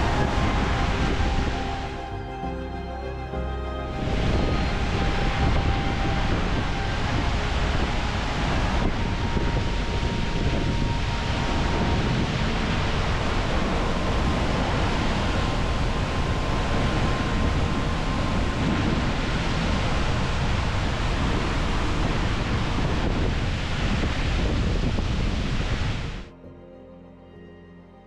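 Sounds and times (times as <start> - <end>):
wind buffeting microphone: 0.0 - 2.1, 3.9 - 26.3
waterfall rushing: 0.0 - 26.2.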